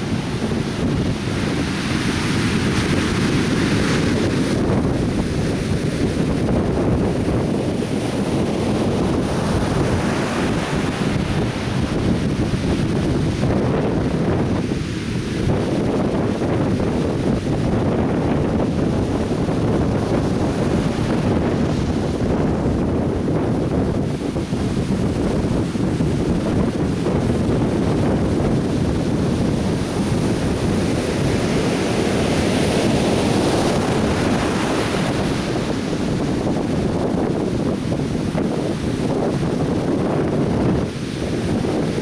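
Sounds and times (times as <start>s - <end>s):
surf washing up beach: 0.0s - 42.0s
wind buffeting microphone: 0.0s - 42.0s.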